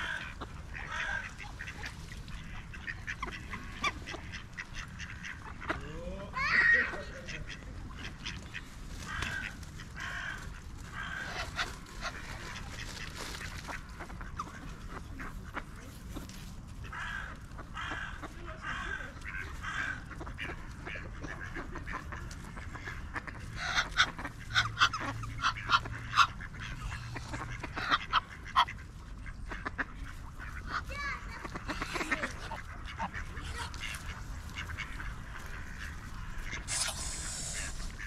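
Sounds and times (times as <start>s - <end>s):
ducks quacking: 0.0s - 38.0s.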